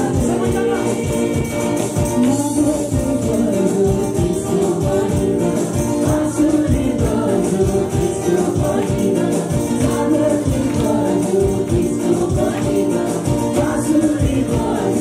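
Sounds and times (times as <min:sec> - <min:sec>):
acoustic guitar: 0:00.0 - 0:15.0
people singing together: 0:00.0 - 0:15.0
steady drum beat: 0:00.0 - 0:15.0.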